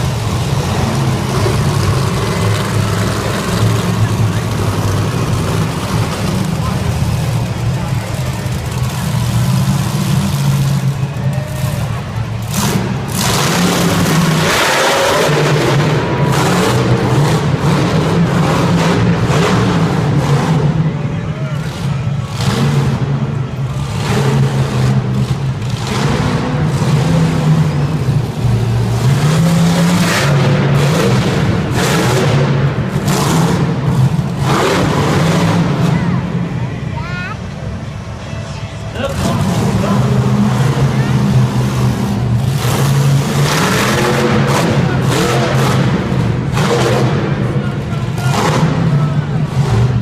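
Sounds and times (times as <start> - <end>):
truck engine revving: 0.0 - 50.0.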